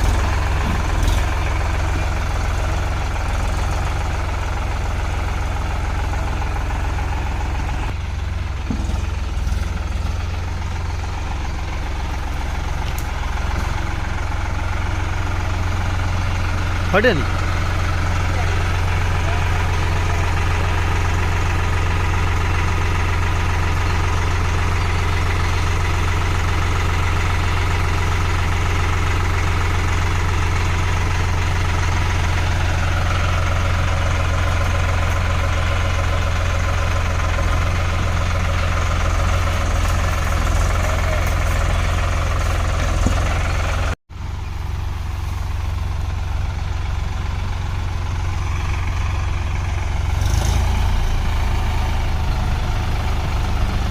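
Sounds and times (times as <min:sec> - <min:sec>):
tractor diesel engine idling: 0:00.0 - 0:53.9.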